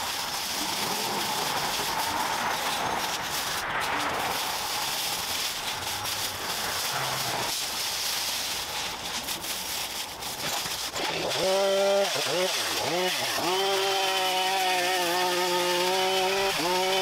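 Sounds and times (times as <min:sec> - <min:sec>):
bamboo and leaves rustling: 0:00.0 - 0:17.0.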